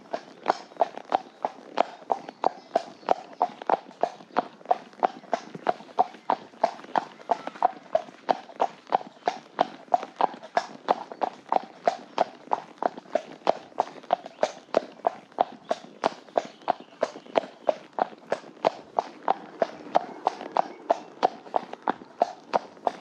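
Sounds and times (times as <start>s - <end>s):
horse hooves clip-clopping on tarmac: 0.0s - 23.0s.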